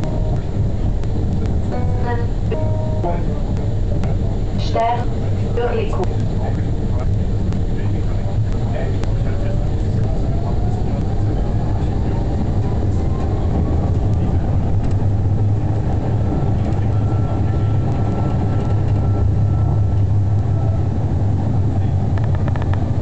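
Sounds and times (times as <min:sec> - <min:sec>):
tram wheels rumbling on rails: 0:00.0 - 0:23.0.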